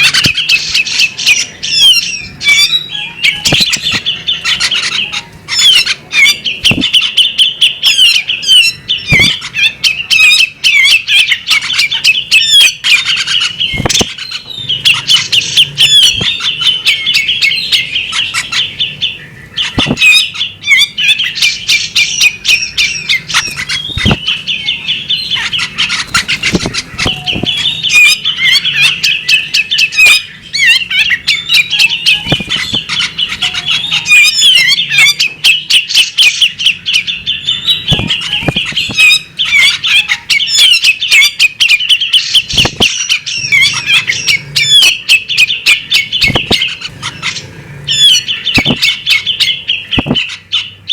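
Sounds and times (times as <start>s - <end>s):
magpie robin singing chattering song: 0.0s - 50.9s.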